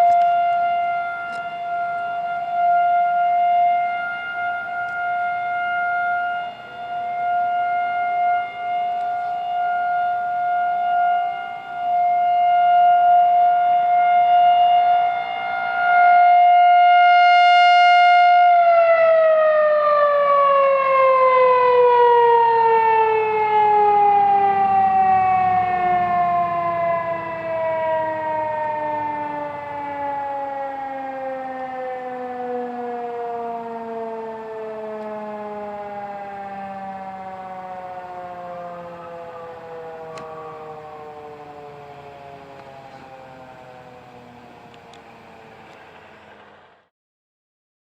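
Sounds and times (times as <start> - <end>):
warning siren high tone: 0.0 - 46.9.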